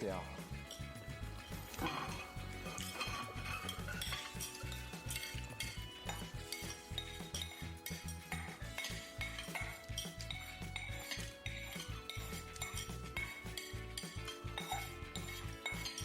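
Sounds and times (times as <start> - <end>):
soft background music: 0.0 - 16.0
metal utensils clinking on dishes: 0.5 - 16.0.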